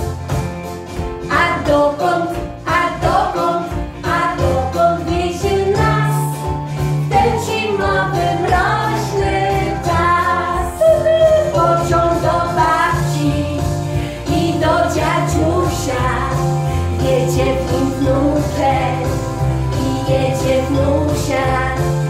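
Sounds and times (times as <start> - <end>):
instrumental backing track: 0.0 - 22.0
children's song singing: 1.3 - 22.0.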